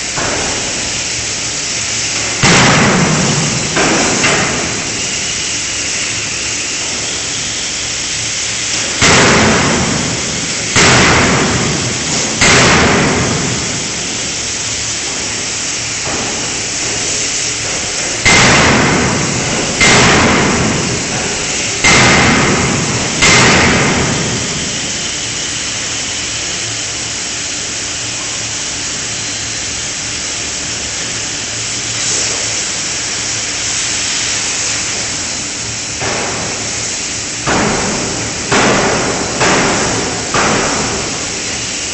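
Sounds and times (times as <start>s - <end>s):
steady machinery noise: 0.0s - 41.9s.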